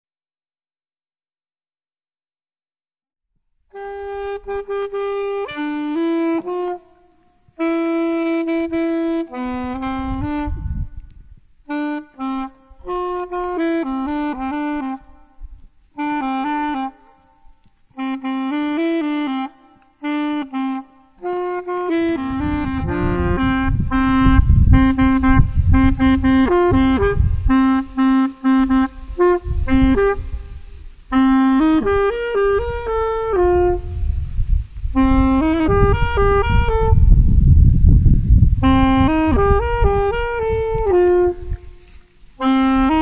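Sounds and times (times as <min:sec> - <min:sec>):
solo saxophone melody: 0:03.6 - 0:43.0.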